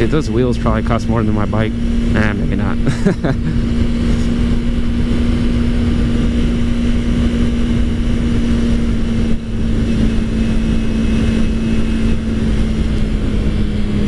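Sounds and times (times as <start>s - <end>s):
motorcycle engine humming: 0.0s - 14.0s.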